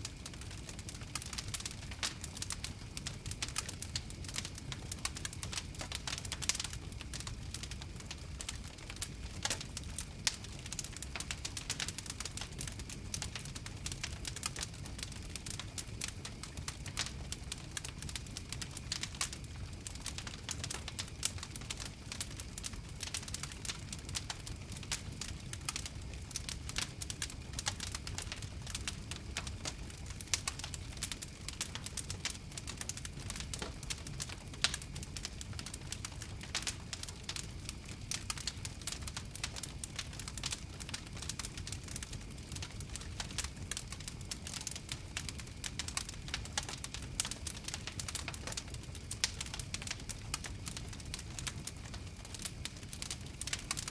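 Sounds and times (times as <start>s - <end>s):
campfire crackling: 0.0s - 53.9s
low rumble of flames: 0.0s - 53.9s.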